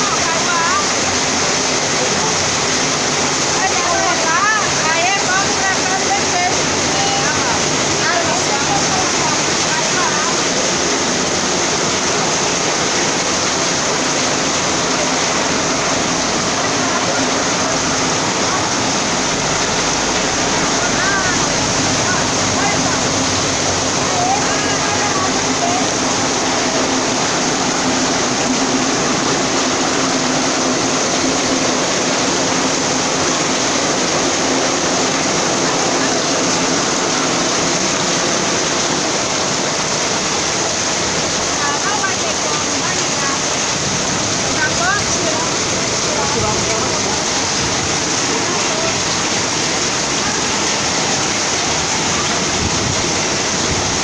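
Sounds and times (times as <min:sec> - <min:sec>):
heavy rain: 0:00.0 - 0:54.0
runoff water rushing: 0:00.0 - 0:54.0.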